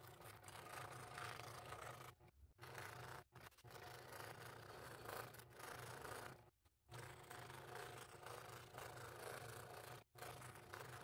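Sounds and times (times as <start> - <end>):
scroll saw motor hum: 0.0 - 11.0.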